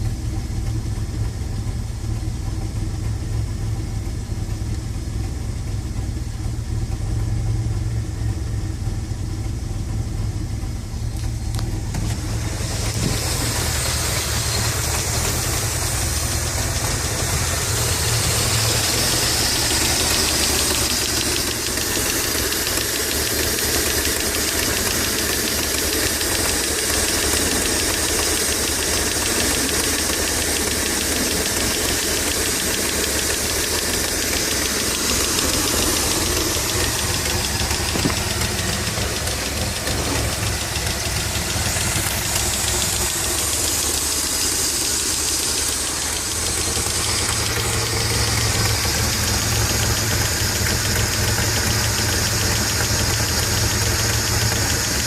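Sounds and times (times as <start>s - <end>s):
car engine idling: 0.0s - 55.0s
fast even engine ticking: 0.0s - 55.0s.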